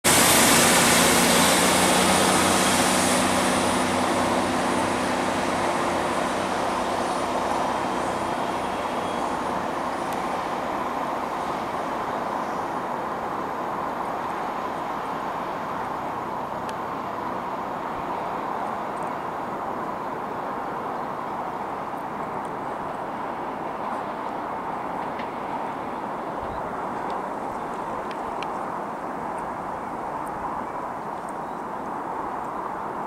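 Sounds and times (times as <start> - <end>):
diesel train engines pulling away: 0.1 - 29.2.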